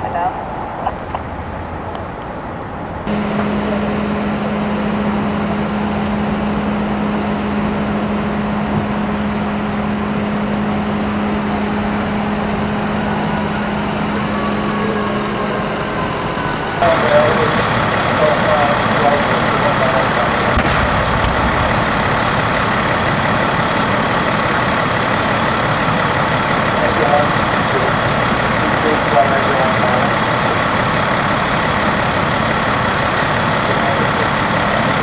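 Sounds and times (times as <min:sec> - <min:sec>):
vehicle engine hum: 0:00.0 - 0:35.0
bright engine roar: 0:03.0 - 0:35.0.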